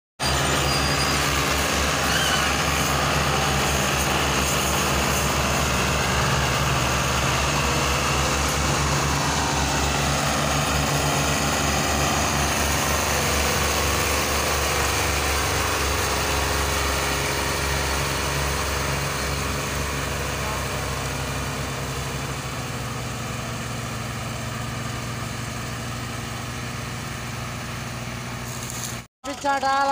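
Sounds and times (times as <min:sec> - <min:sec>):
diesel tractor engine under load: 0:00.2 - 0:29.9.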